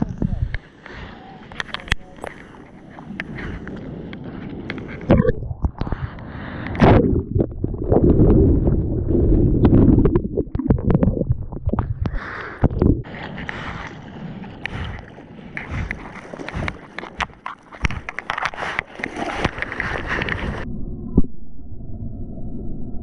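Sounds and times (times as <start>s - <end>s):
churning rush of foam and water: 0.9s - 20.6s.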